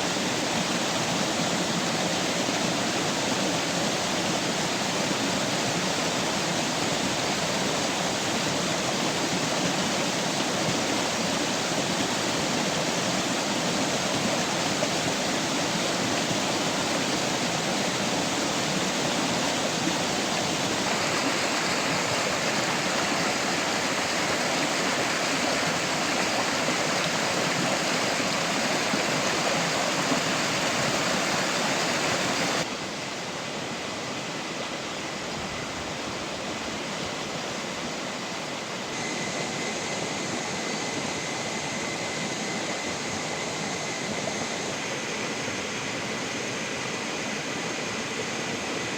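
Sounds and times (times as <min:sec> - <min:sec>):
water rushing: 0:00.0 - 0:48.9.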